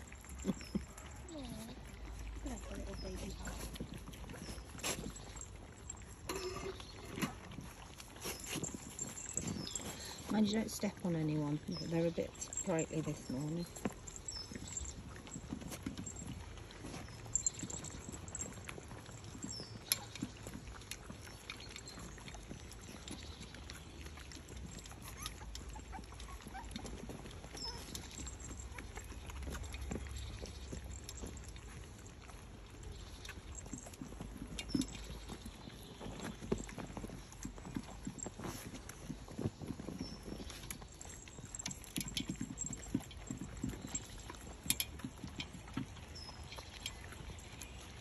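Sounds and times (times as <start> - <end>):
dogs' mouths tapping metal bowl: 0.0 - 48.0
paws on paving stones: 0.0 - 48.0.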